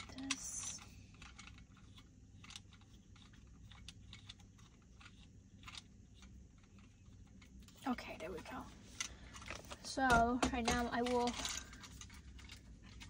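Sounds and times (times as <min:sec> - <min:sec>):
plastic parts clicking: 0:00.0 - 0:07.8, 0:09.0 - 0:13.0
low steady hum: 0:00.0 - 0:13.0.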